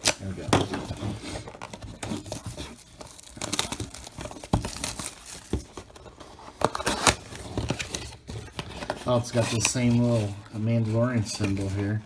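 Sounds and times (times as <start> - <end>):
shrink-wrap and cardboard crinkling: 0.0 - 12.0.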